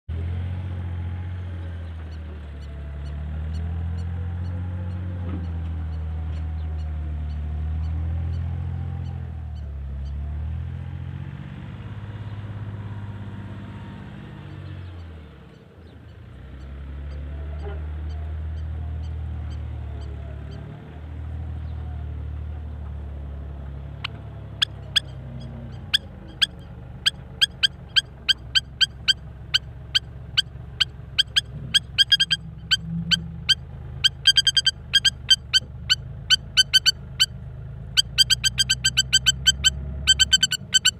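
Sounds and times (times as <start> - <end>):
bulldozer diesel engine: 0.1 - 40.9.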